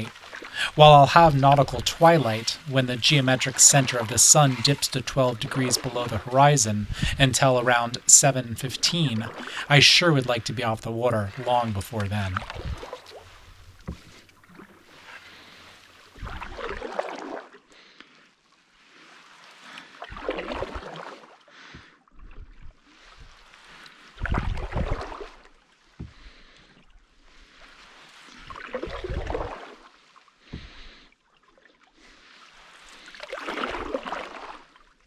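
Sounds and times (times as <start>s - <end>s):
canoe paddle splashing water: 0.0s - 35.0s.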